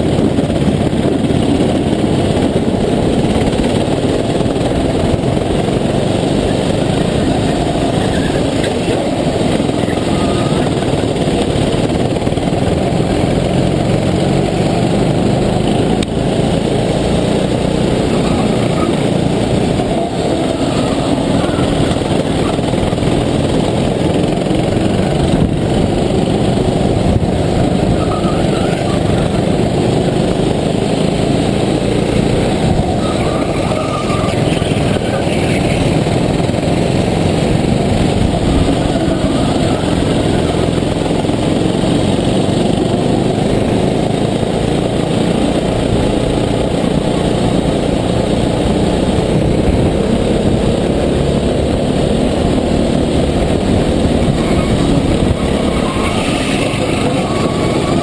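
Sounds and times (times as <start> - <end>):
kart engine droning: 0.0 - 58.0
other karts running: 0.0 - 58.0.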